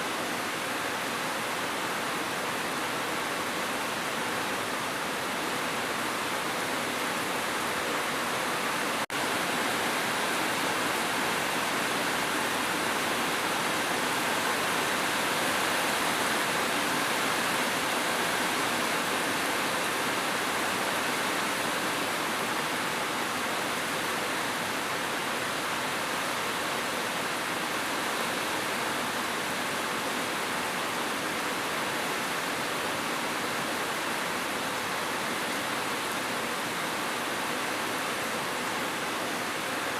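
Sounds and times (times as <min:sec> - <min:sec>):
rainfall hiss: 0:00.0 - 0:39.9.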